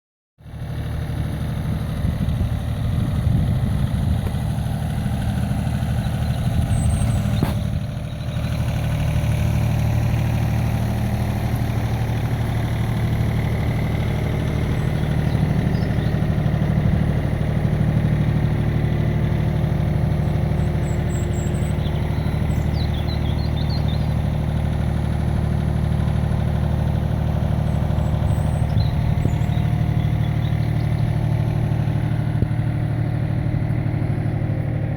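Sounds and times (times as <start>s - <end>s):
excavator engine droning: 0.4s - 34.9s.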